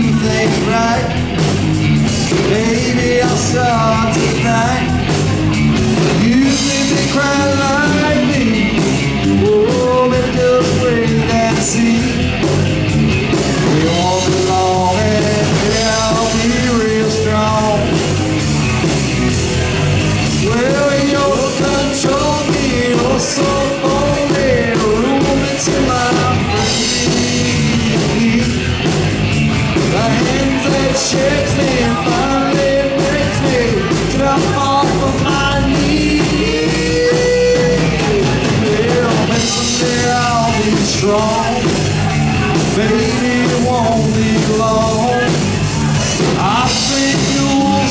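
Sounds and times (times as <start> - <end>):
man singing lead vocal: 0.0 - 12.6, 13.4 - 18.4, 20.2 - 47.9
drum kit: 0.0 - 47.9
electric bass: 0.0 - 47.9
electric guitar: 0.0 - 47.9.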